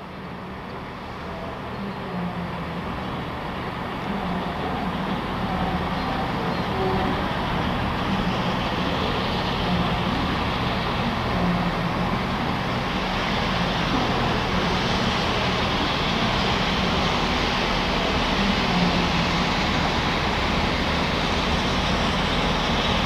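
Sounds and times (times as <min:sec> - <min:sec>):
steam locomotive approaching: 0:00.0 - 0:23.0.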